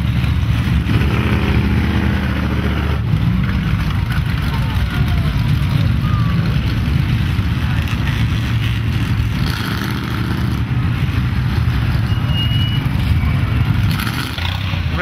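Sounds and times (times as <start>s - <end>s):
truck engines droning: 0.0s - 15.0s.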